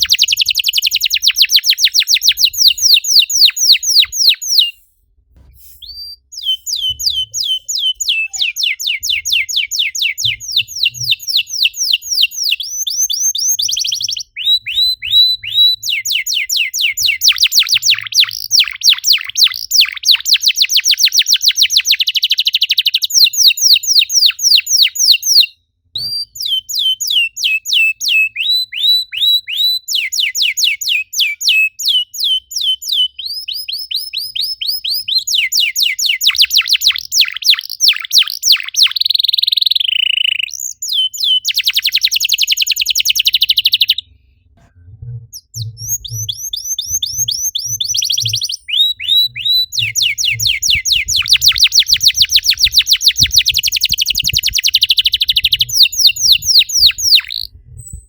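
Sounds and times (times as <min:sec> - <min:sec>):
canary singing trills: 0:00.0 - 0:04.8, 0:05.8 - 0:44.0, 0:45.3 - 0:58.0.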